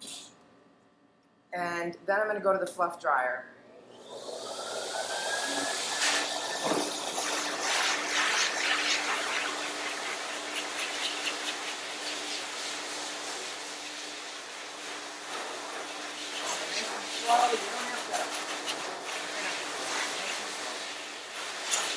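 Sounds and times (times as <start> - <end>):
dryer motor whine: 3.7 - 21.9
air rushing from hose: 3.9 - 21.9.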